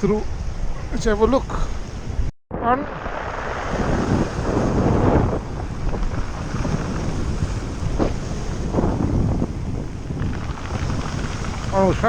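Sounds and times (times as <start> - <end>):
wind buffeting microphone: 0.0 - 12.0
surf on rocky shore: 1.0 - 12.0.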